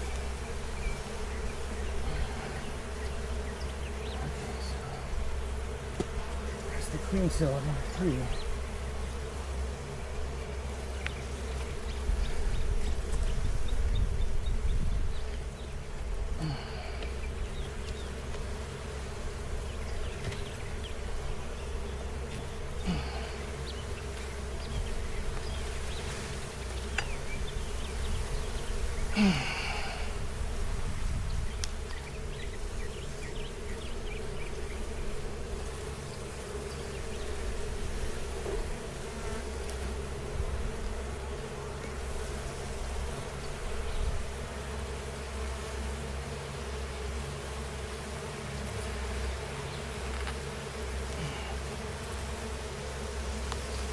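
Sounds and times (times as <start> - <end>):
honey bees buzzing: 0.0 - 53.9.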